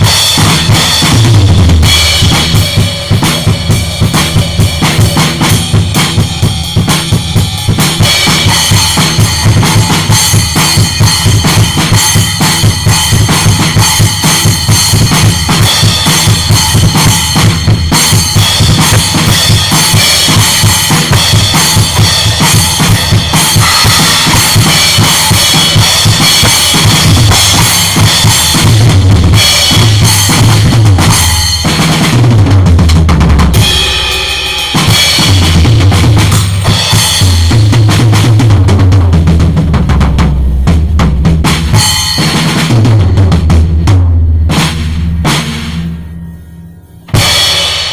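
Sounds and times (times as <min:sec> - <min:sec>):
cymbals washing: 0:00.0 - 0:32.1, 0:33.6 - 0:37.6, 0:45.2 - 0:47.9
drum kit groove: 0:00.0 - 0:47.9.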